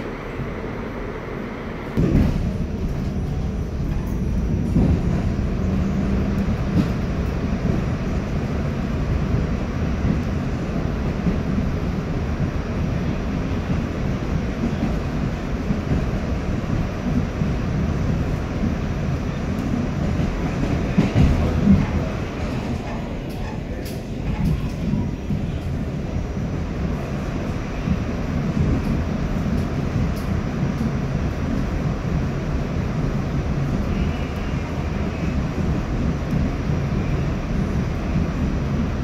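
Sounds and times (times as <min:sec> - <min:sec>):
subway train rumbling on track: 0:00.0 - 0:39.0.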